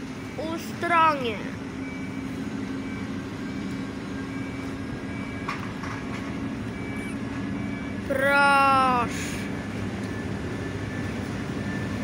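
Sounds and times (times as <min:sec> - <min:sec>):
diesel locomotive humming: 0:00.0 - 0:12.0.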